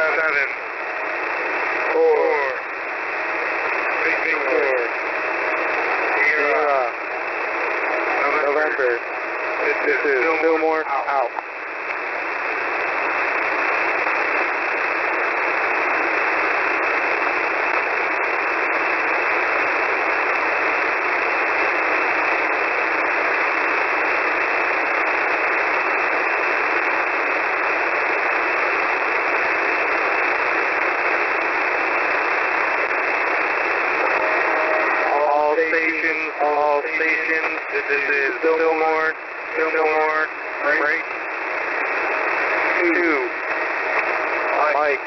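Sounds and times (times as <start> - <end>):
radio static hiss: 0.0 - 45.0.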